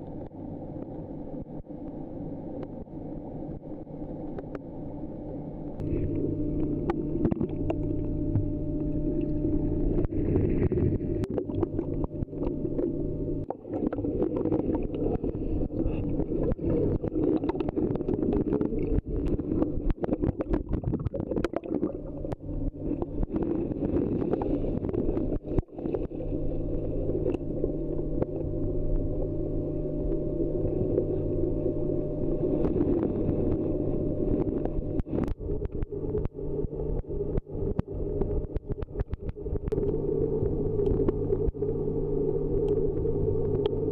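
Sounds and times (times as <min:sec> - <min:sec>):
low hum: 0:00.0 - 0:43.9
underwater water rushing: 0:00.0 - 0:43.9.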